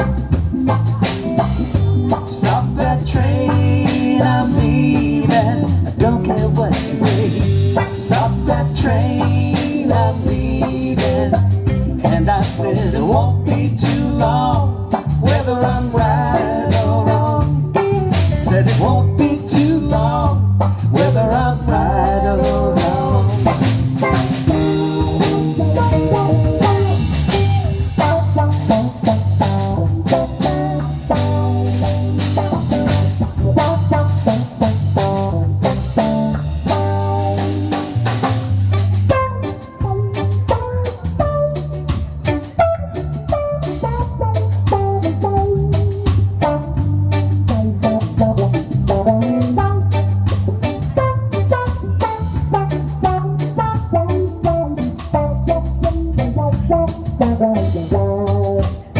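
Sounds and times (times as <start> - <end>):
bass guitar line: 0.0 - 58.9
drum kit: 0.0 - 58.9
electric guitar lines: 0.0 - 58.9.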